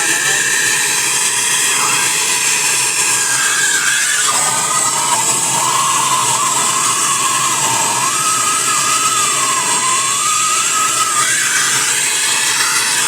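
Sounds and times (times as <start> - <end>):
gas torch flame hissing: 0.0 - 13.0.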